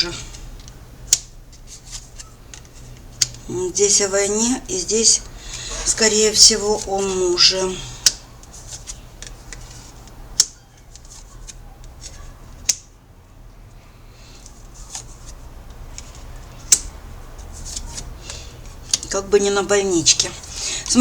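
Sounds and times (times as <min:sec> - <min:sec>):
cards rustling: 0:00.0 - 0:12.7, 0:14.2 - 0:21.0.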